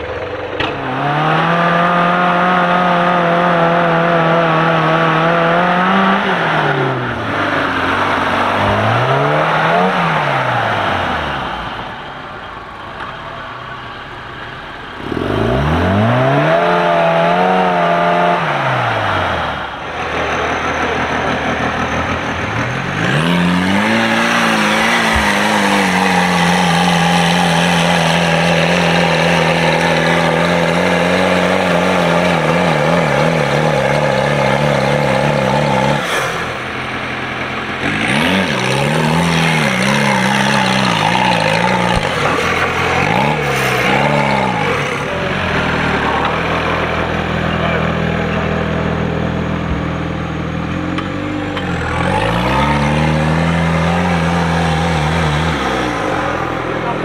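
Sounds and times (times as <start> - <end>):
off-road car engines revving: 0.0 - 57.0.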